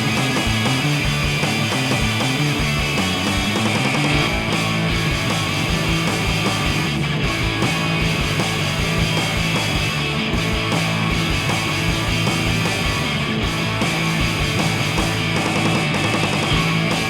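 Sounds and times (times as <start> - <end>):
bass guitar: 0.0 - 17.0
distorted electric guitar: 0.0 - 17.0
drums keeping a driving beat: 0.0 - 17.0.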